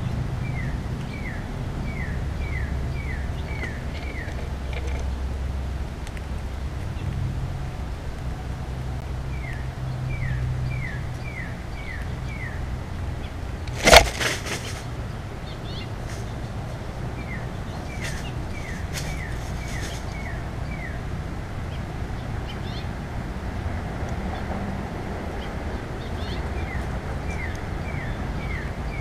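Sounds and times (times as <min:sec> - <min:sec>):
low outdoor hum: 0:00.0 - 0:29.0.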